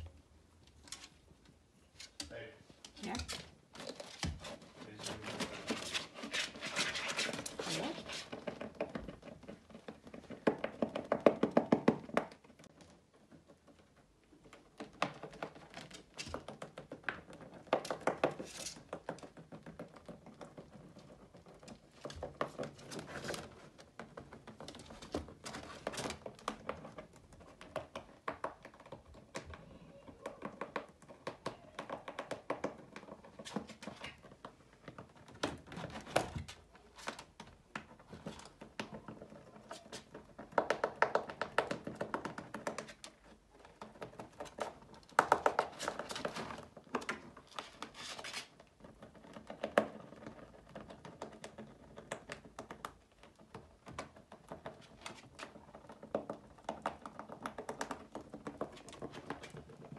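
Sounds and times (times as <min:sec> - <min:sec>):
rabbit gnawing: 0:00.0 - 0:59.9.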